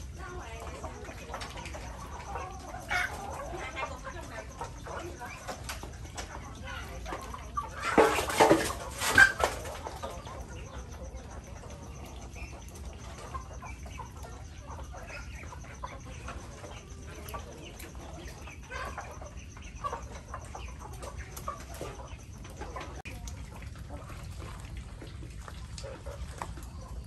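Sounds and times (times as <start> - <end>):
birds flurry: 0.0 - 27.0
chickens clucking: 0.0 - 27.0.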